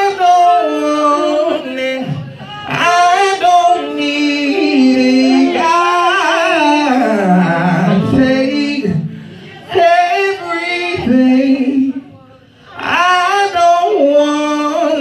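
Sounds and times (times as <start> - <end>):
voices singing held notes: 0.0 - 12.1.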